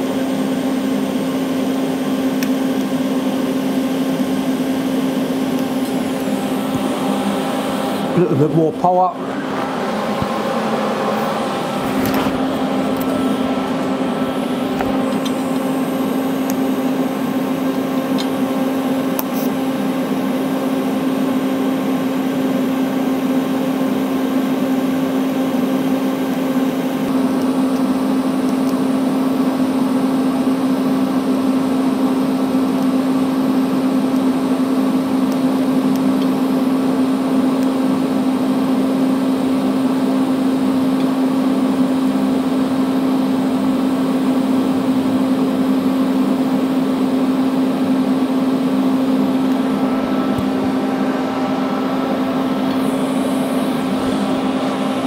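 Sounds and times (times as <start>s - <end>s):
welding arc buzzing: 0.0s - 55.0s.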